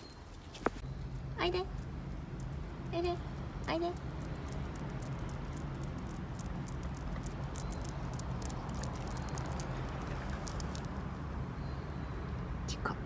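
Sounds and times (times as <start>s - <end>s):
steady low rumble: 0.8s - 11.6s.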